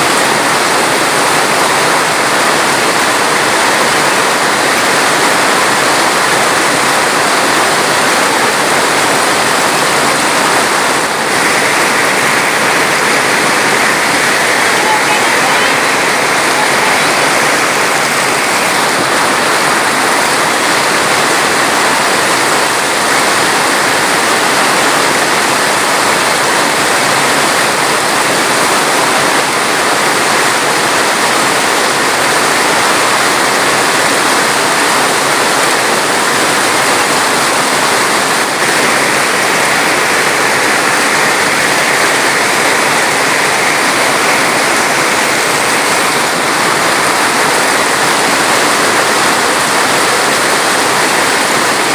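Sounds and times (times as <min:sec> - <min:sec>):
water rushing: 0:00.0 - 0:51.9.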